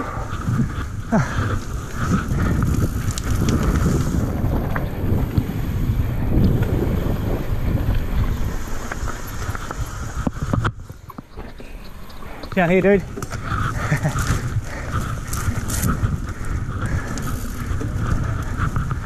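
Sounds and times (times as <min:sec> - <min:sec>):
bike rattling over bumps: 0:00.0 - 0:19.0
bike tyres rolling on dirt: 0:00.0 - 0:19.0
wind buffeting microphone: 0:00.0 - 0:19.0.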